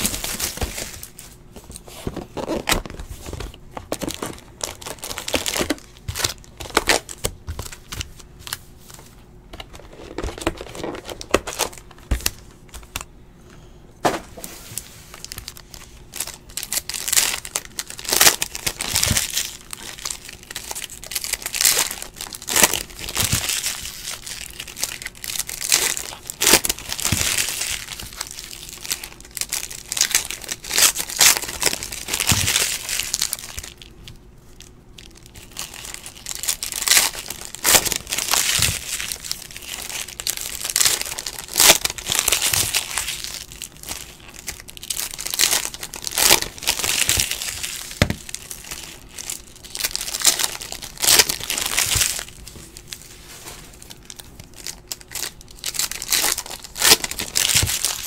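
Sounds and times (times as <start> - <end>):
foil wrappers crinkling and tearing: 0.0 - 13.1, 14.6 - 58.0.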